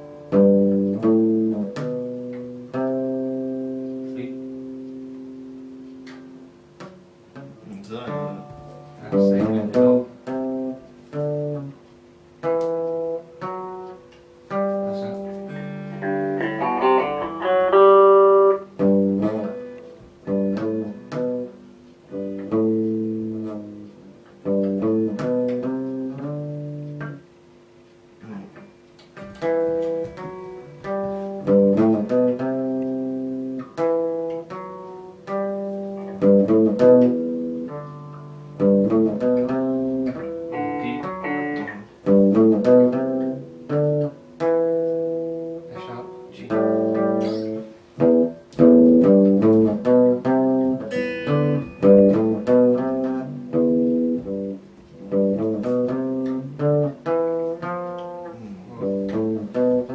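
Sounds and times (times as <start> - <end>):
electric guitars playing: 0.0 - 59.9.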